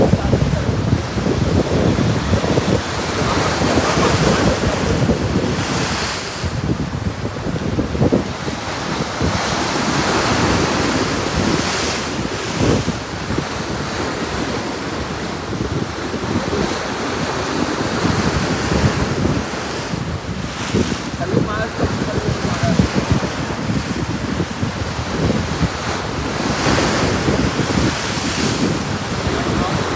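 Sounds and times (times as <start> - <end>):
sea waves breaking: 0.0 - 29.9
wind buffeting microphone: 0.0 - 29.9.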